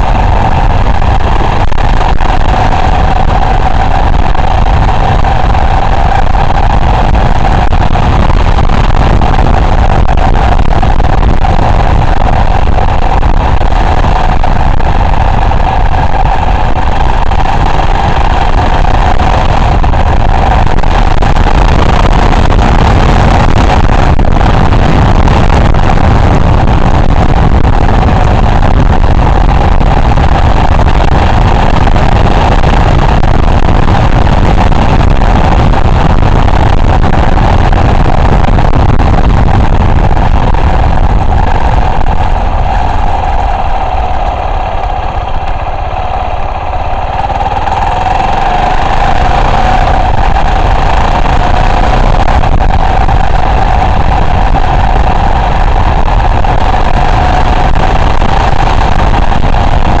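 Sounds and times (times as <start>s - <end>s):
car engine and tyre noise: 0.0s - 60.0s.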